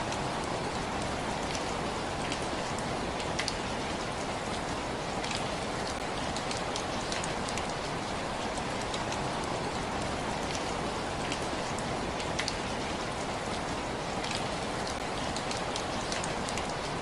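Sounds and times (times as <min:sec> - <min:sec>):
raindrops ticking on a surface: 0:00.0 - 0:17.0
steady rain hiss: 0:00.0 - 0:17.0.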